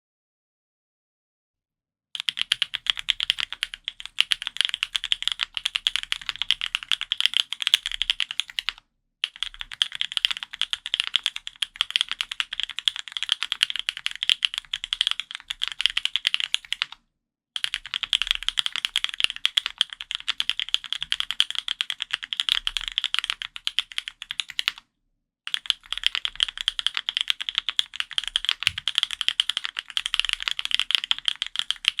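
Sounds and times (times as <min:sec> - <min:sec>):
mechanical keyboard typing: 0:02.2 - 0:17.0, 0:17.6 - 0:24.8, 0:25.5 - 0:32.0.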